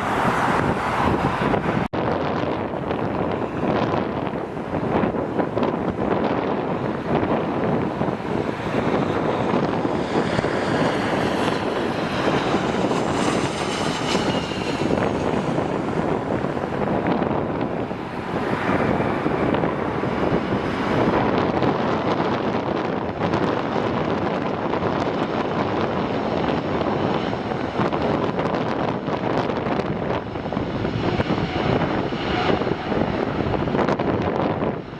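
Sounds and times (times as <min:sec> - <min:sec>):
jet engine whine: 0:00.0 - 0:34.9
wind buffeting microphone: 0:00.0 - 0:34.9.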